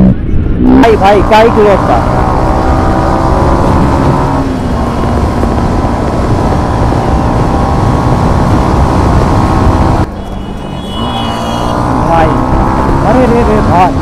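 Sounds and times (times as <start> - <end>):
motorcycle engine running: 0.0 - 14.0
wind noise on microphone: 2.0 - 14.0.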